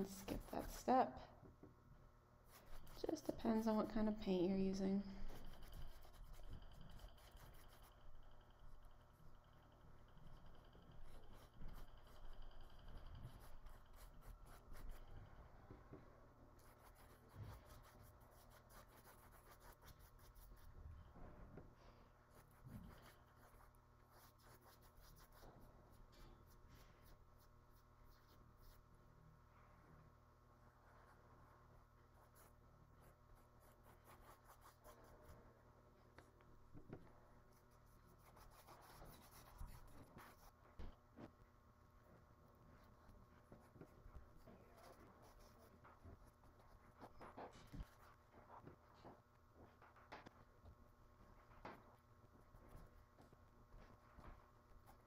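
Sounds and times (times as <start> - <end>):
paintbrush scratchy strokes: 0.0 - 1.0, 2.4 - 29.9, 30.5 - 36.3, 36.9 - 41.4, 42.0 - 55.0.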